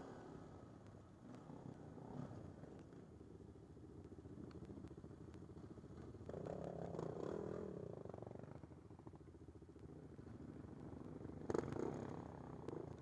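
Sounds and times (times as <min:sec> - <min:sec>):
atv engines running slowly: 0:00.0 - 0:13.0.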